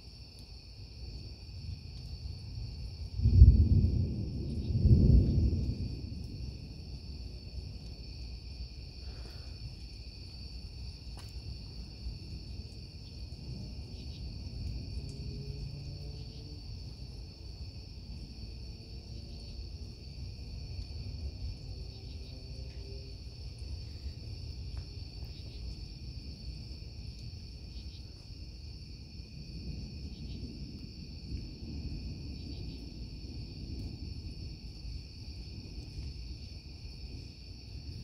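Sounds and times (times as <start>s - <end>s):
crickets chirring: 0.0s - 38.0s
distant thunder rumble: 1.6s - 38.0s.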